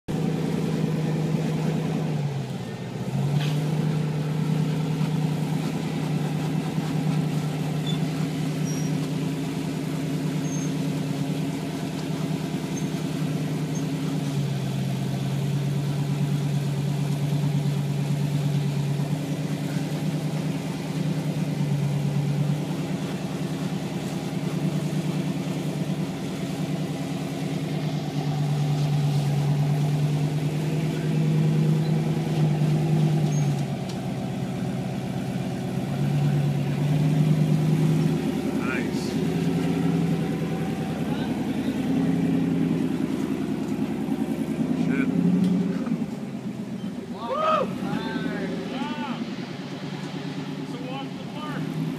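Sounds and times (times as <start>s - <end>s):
buggy engine running: 0.0s - 51.9s.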